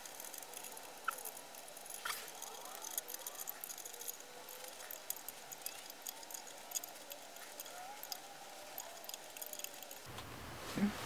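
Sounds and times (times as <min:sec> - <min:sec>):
small clicks and rattles of screws: 0:00.0 - 0:10.1.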